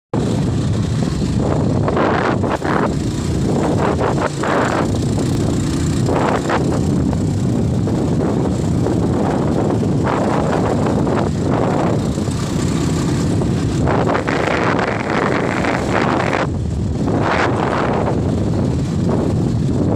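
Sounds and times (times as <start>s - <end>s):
wind noise on microphone: 0.1s - 19.9s
motorcycle engine rumble: 0.2s - 19.9s.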